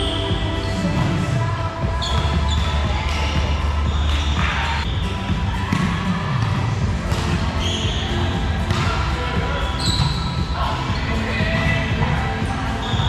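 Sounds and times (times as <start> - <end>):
sneakers squeaking: 0.0 - 6.1, 7.0 - 13.0.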